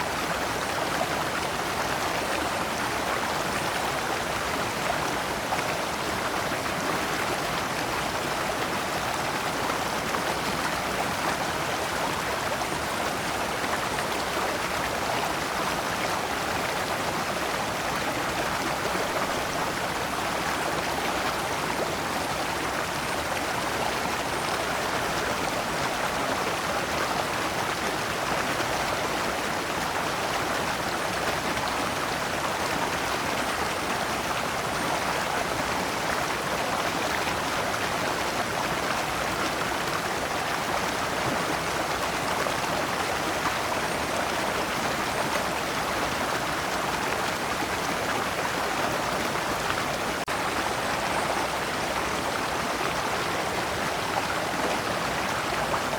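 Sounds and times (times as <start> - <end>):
stream flowing over stones: 0.0 - 55.9.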